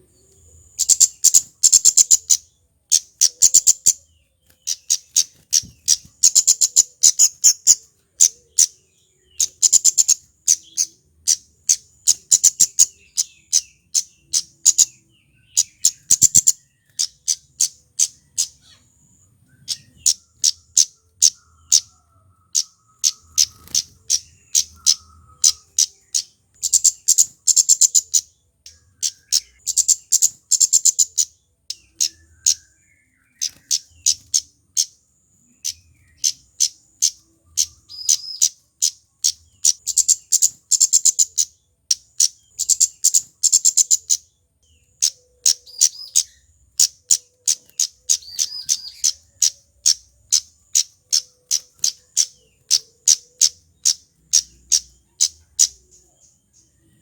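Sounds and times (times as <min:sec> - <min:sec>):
bird calling sharp high chips: 0:00.8 - 0:15.0, 0:19.6 - 0:35.0, 0:35.6 - 0:44.3, 0:45.0 - 0:56.1.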